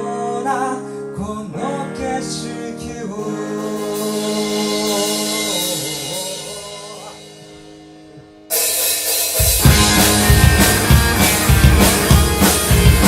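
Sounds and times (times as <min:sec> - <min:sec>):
person singing: 0:00.0 - 0:08.2, 0:09.6 - 0:13.0
live rock band: 0:00.0 - 0:13.0.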